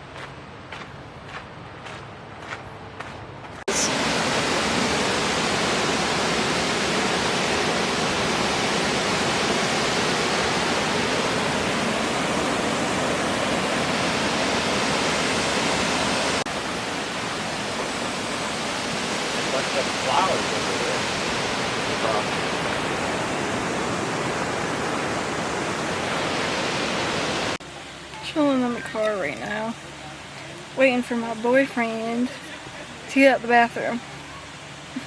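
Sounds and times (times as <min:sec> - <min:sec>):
waterfall rushing: 0:03.7 - 0:35.0.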